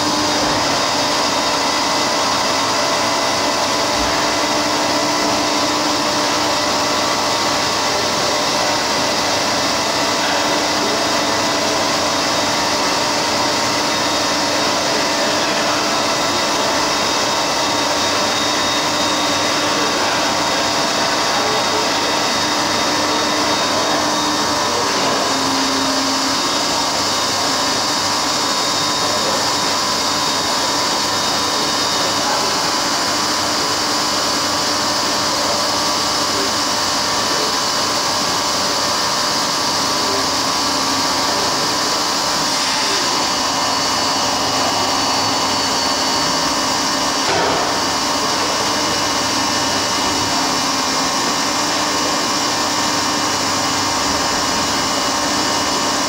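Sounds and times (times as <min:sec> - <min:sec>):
boring machine hum and whine: 0:00.0 - 0:56.0.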